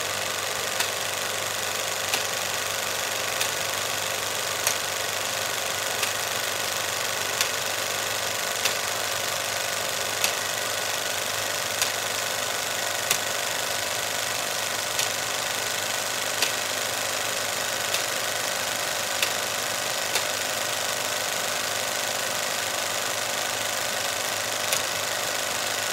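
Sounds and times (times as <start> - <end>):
film projector whirring: 0.0 - 25.9
projector sharp clicks: 0.6 - 21.7, 22.4 - 25.9.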